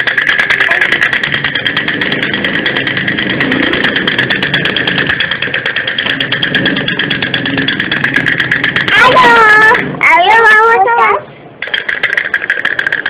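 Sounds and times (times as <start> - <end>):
sticks rattling on toy drum: 0.0 - 10.5, 11.6 - 13.0
toy motor whirring: 0.0 - 13.0.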